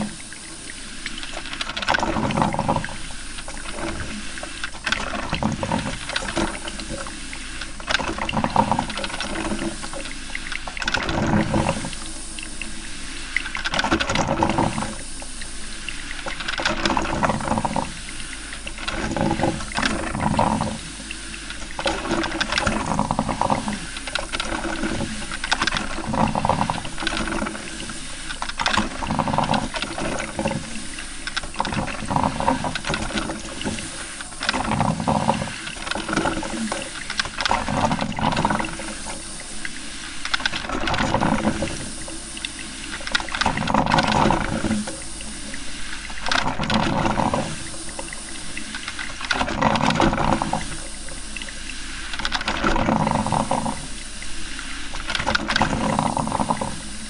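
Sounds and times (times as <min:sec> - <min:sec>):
coffee maker gurgling and sputtering: 0:00.0 - 0:57.0.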